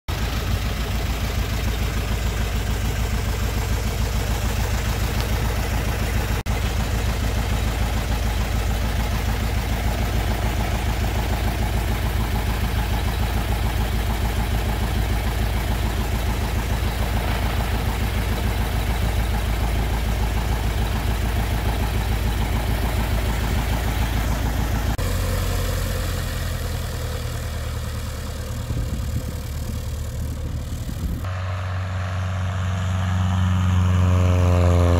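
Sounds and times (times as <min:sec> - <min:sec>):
light airplane engine idling: 0:00.1 - 0:34.9.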